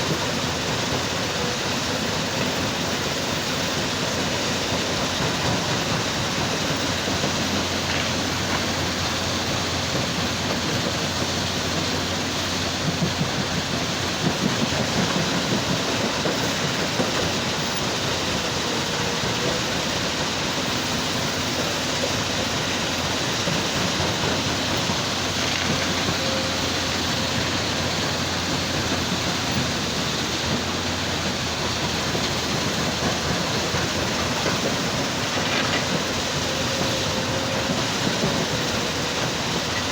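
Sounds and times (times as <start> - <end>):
heavy machinery running: 0.0 - 39.9.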